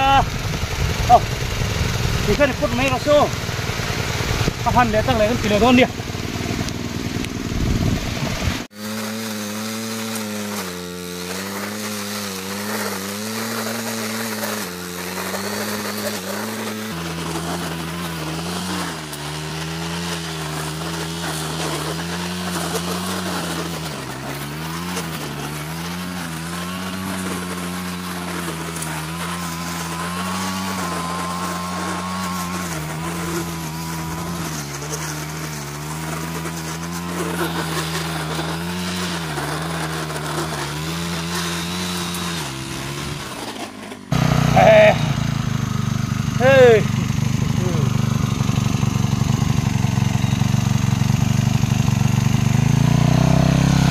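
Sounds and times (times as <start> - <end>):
brush cutter engine cutting grass: 0.0 - 53.9.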